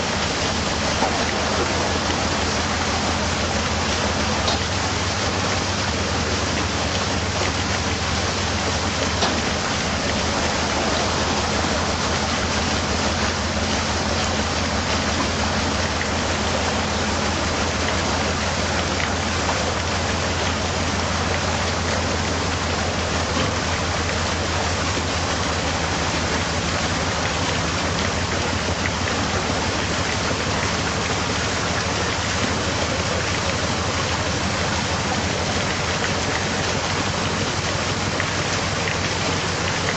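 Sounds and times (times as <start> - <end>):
diesel engine humming: 0.0 - 39.9
rushing water hiss: 0.0 - 39.9.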